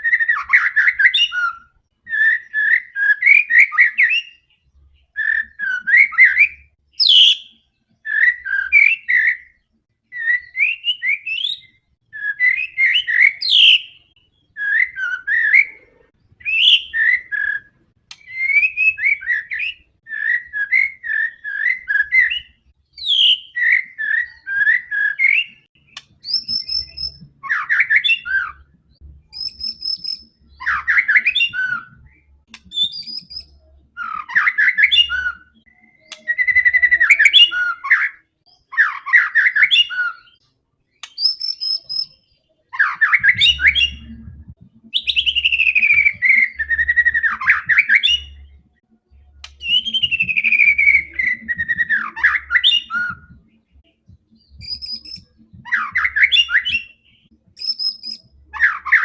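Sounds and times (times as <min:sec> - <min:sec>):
songbird singing whistled notes: 0:00.0 - 0:59.0.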